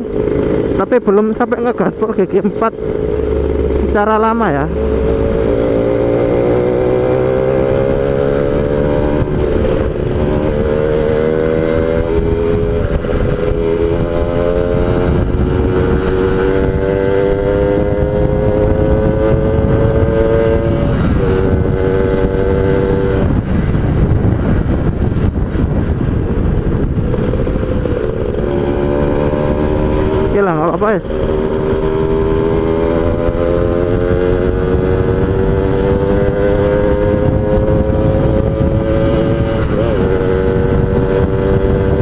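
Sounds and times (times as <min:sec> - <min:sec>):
heavy wind rush: 0:00.0 - 0:42.0
motorcycle engine at full throttle: 0:00.0 - 0:42.0.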